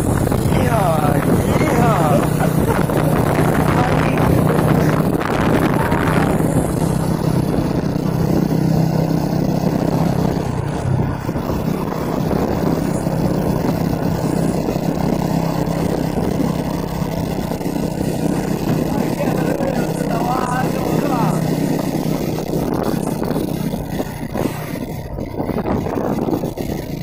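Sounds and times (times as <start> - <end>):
truck engine humming: 0.0 - 27.0.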